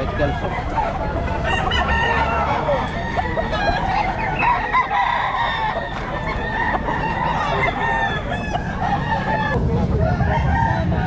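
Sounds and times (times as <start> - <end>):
roosters crowing: 0.0 - 11.0.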